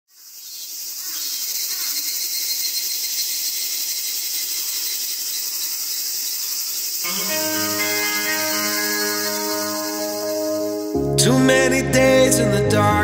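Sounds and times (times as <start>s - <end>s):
high-pitched insect chorus: 0.1s - 11.0s.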